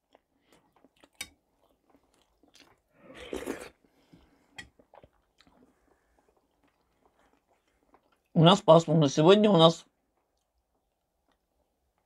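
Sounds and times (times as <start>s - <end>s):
person chewing food: 0.0s - 8.4s, 10.0s - 12.0s.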